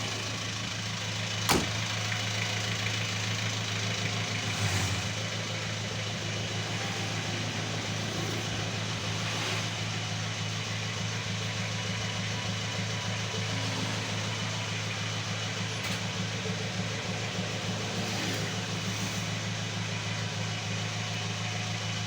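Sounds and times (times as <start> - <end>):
car engine idling: 0.0 - 22.0
engine knock: 0.0 - 22.0.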